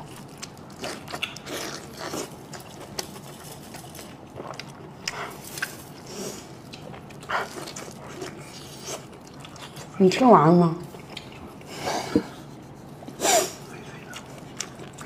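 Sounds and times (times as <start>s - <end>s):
person chewing food: 0.0s - 10.0s, 10.8s - 15.0s.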